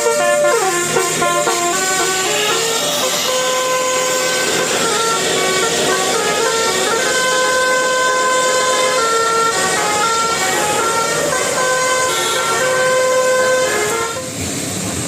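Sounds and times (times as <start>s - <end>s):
multi-tone air horn playing a tune: 0.0s - 14.4s.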